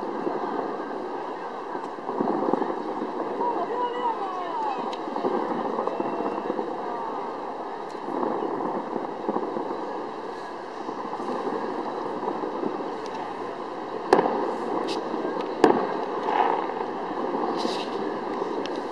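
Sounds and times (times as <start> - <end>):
fireworks bursting: 0.0 - 18.9
sharp firework bangs: 0.0 - 18.9.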